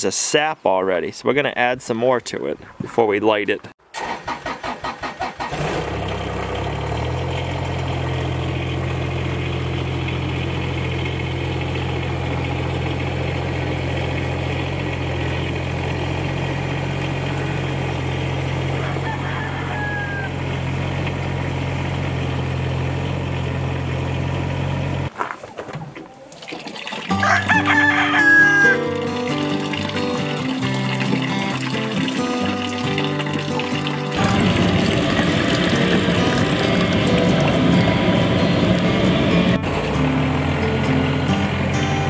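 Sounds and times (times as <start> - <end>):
tractor engine running: 3.9 - 25.1, 27.1 - 42.0.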